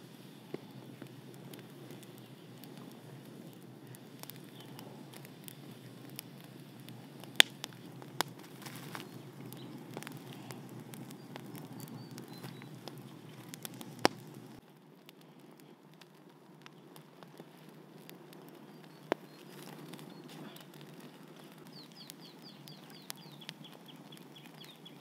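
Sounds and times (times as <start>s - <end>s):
fire popping: 0.0s - 25.0s
wood fire crackling: 0.0s - 25.0s.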